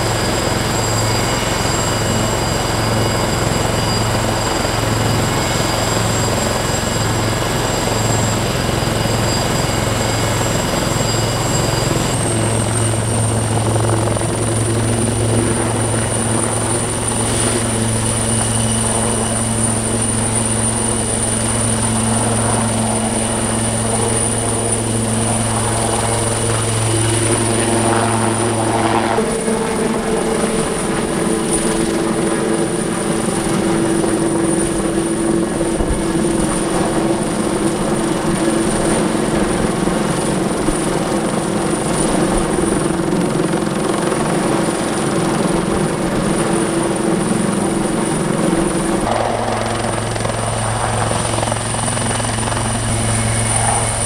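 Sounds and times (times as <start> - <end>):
helicopter rotor and engine noise: 0.0 - 54.0
helicopter turbine whine: 0.0 - 54.0.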